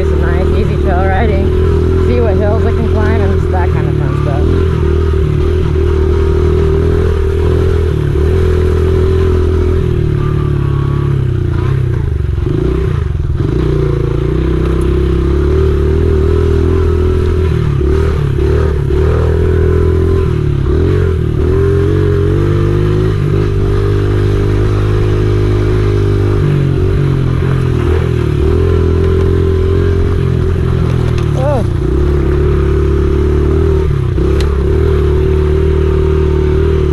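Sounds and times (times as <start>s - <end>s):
small motorcycle engine revving: 0.0s - 36.9s.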